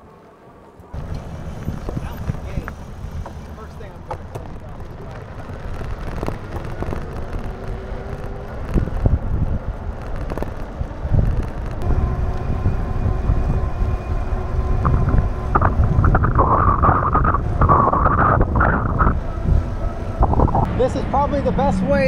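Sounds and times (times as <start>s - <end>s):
tyres rumbling on pavement: 0.8s - 22.0s
wind buffeting microphone: 0.9s - 22.0s.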